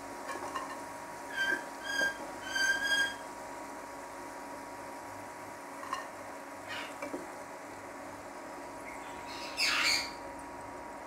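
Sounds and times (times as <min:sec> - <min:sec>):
oil sizzling with frying potatoes: 0:00.0 - 0:11.0.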